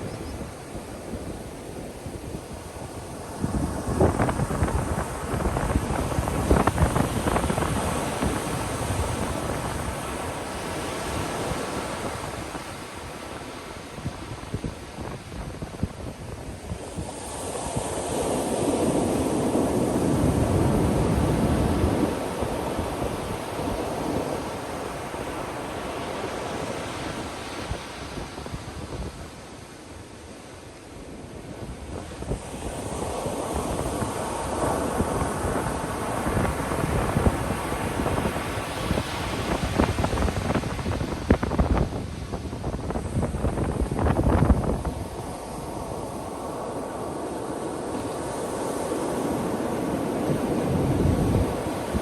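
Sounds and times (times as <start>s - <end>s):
wind buffeting microphone: 0.0s - 26.0s, 31.2s - 52.0s
ocean surf washing on beach: 0.0s - 52.0s.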